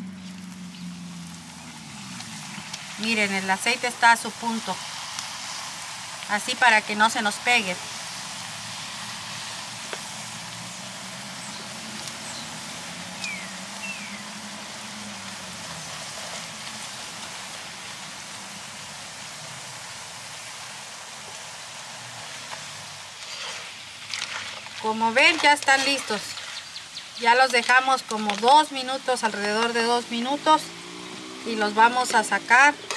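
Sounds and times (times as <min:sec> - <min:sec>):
tortillas sizzling in hot oil: 0:00.0 - 0:32.9.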